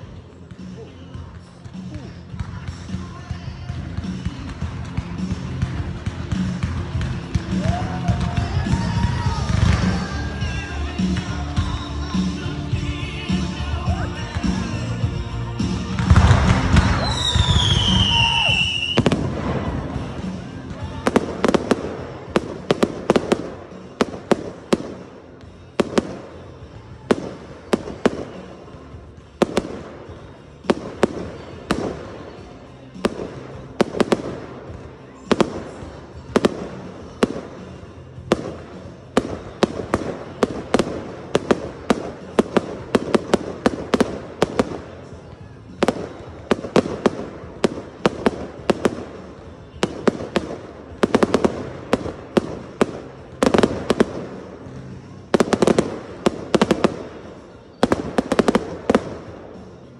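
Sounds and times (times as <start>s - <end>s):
fireworks bursting with bangs: 0.0s - 59.9s
fireworks crackle: 0.0s - 59.9s.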